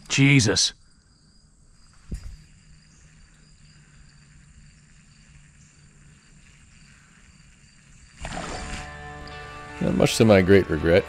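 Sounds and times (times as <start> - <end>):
insects chirping: 0.0 - 9.7.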